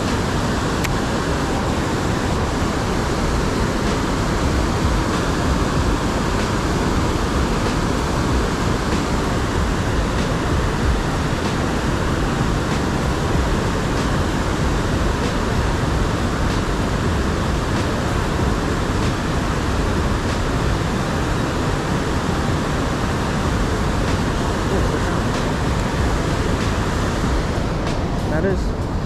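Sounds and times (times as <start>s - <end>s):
rushing river water: 0.0s - 29.0s.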